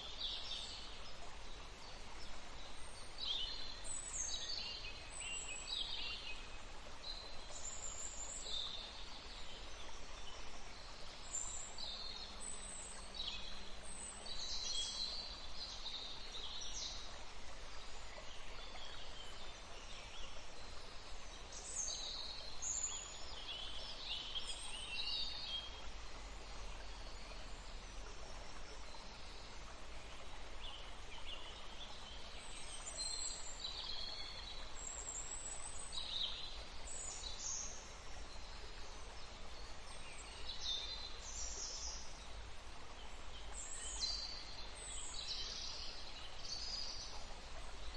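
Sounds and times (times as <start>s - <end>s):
faint background noise: 0.0s - 47.9s.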